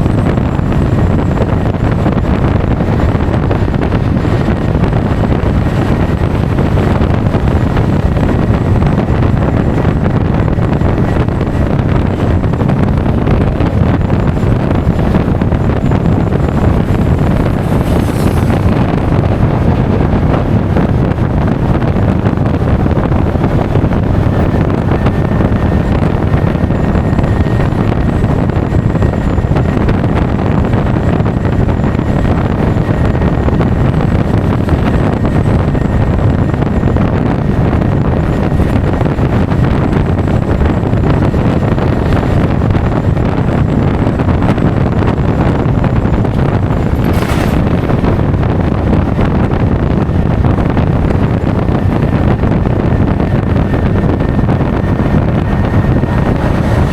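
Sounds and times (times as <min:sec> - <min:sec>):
loud wind rush over microphone: 0:00.0 - 0:56.9
road and engine noise: 0:00.0 - 0:56.9.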